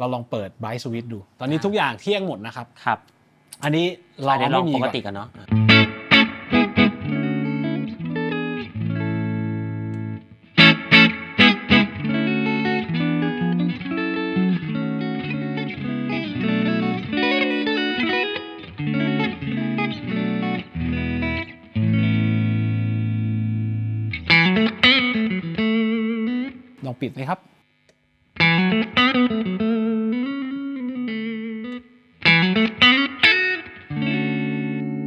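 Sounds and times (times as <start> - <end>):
clean electric guitar: 4.6 - 26.8, 27.8 - 35.0.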